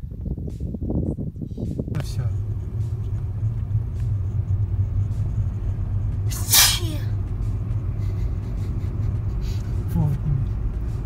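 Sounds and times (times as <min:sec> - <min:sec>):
car engine and tyre drone: 0:00.6 - 0:11.0.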